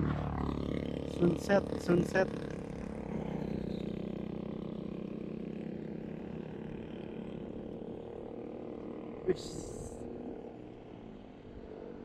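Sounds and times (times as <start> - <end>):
scooter engine running: 0.0 - 11.3
wind and road noise: 0.0 - 12.0.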